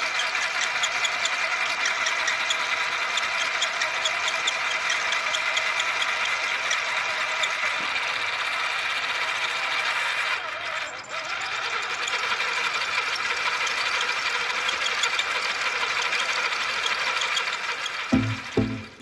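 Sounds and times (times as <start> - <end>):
electric motor whirring with gear chatter: 0.0 - 19.0.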